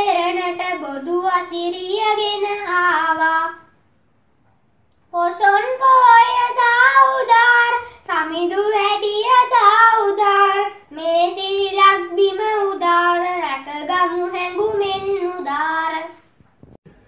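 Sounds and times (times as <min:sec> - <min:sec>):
child singing: 0:00.0 - 0:03.7, 0:05.1 - 0:16.2.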